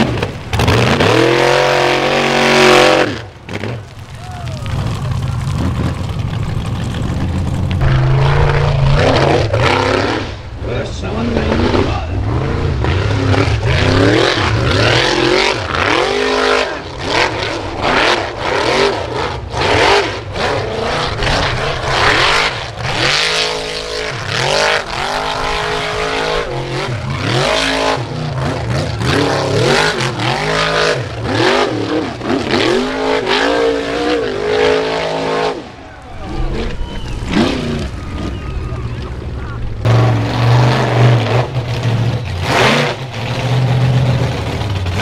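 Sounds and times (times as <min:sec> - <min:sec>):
racing engine revving hard: 0:00.0 - 0:03.8, 0:07.8 - 0:38.4, 0:39.8 - 0:45.0
tyres spinning on loose dirt: 0:00.0 - 0:12.0, 0:13.6 - 0:45.0.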